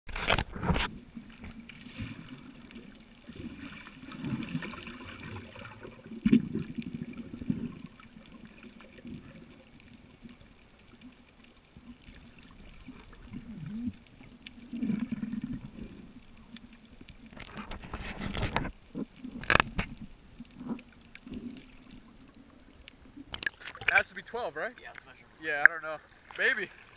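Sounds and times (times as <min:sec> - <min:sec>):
muffled underwater water noise: 0:00.1 - 0:26.9.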